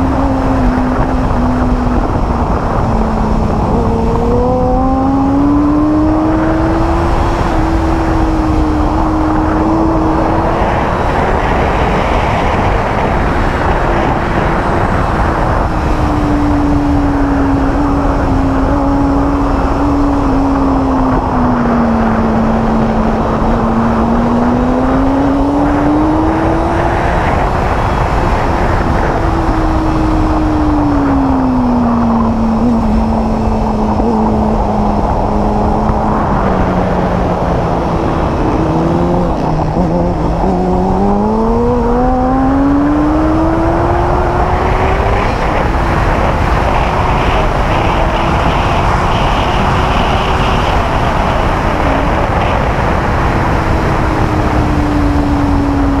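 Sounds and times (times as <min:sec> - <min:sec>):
sport bike engine running hard: 0:00.0 - 0:56.0
wind noise: 0:00.0 - 0:56.0.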